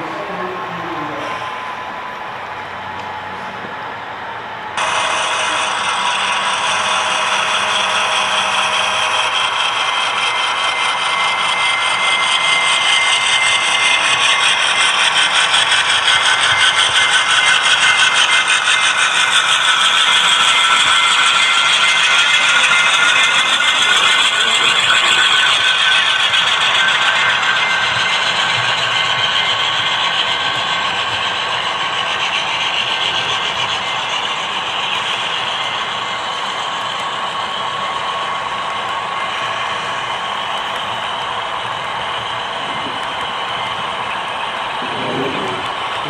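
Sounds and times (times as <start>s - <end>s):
steady high whine: 0.0s - 46.0s
model train wheels rattling: 4.8s - 46.0s.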